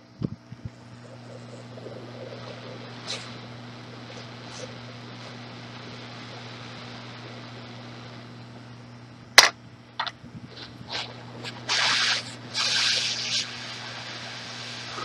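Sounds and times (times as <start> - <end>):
low steady hum: 0.0 - 15.0
hot-air nozzle hissing: 0.8 - 8.6, 10.5 - 15.0.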